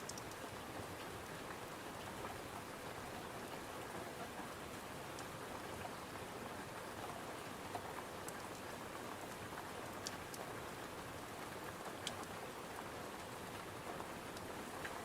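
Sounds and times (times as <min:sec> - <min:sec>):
rain against a window: 0:00.0 - 0:15.0.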